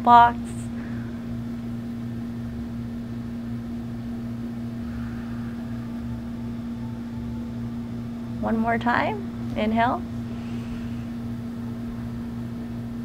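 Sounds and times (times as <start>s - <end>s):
faint pulsing rumble: 0.0s - 13.0s
low machine hum: 0.0s - 13.0s.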